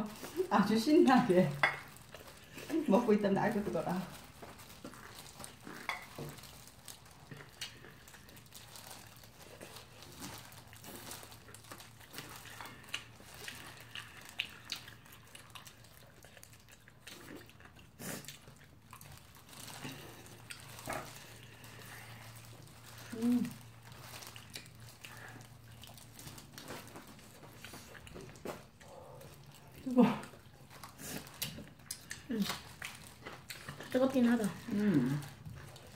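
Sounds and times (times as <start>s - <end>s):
plastic glove crinkles: 0.0s - 17.1s, 18.3s - 35.9s
chewing: 0.0s - 35.9s.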